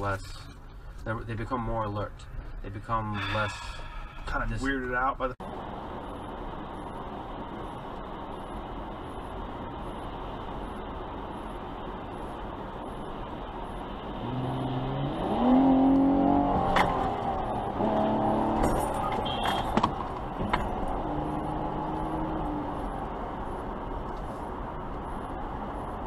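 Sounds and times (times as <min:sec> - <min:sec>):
road and engine noise: 0:00.0 - 0:26.0.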